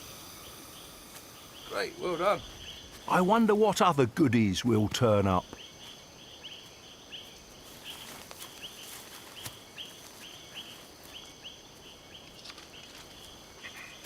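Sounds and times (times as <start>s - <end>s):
steady high whine: 0.0s - 14.0s.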